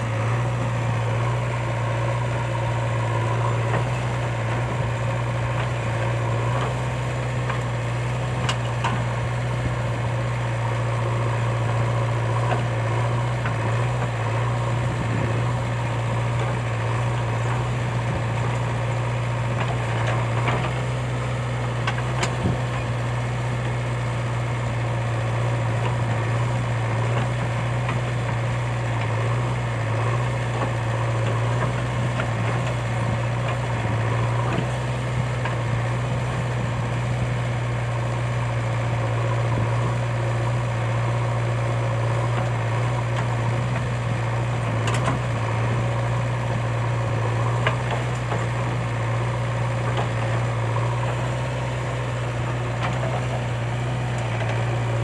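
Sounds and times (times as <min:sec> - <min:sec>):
backhoe digging soil: 0:00.0 - 0:55.0
diesel engine running: 0:00.0 - 0:55.0.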